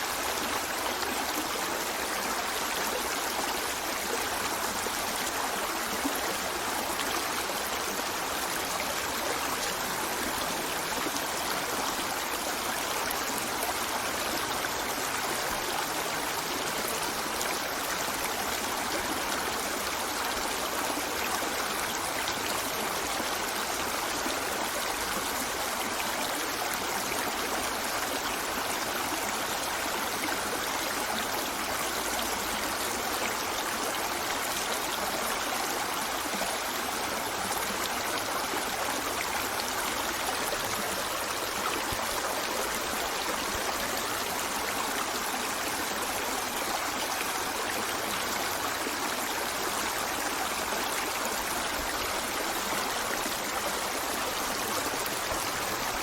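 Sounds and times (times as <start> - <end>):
river flowing over rocks: 0.0 - 56.0.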